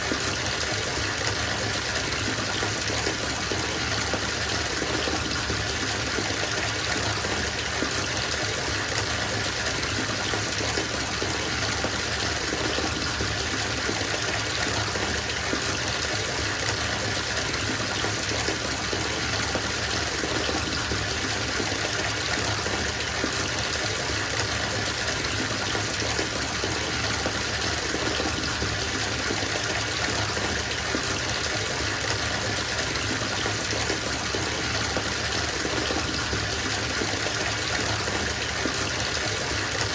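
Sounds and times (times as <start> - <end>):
water gushing into bathtub: 0.0 - 39.9.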